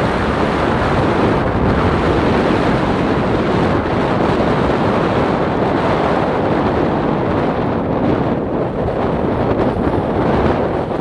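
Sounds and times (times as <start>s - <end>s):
choppy water washing against shore: 0.0s - 11.0s
wind buffeting microphone: 0.0s - 11.0s.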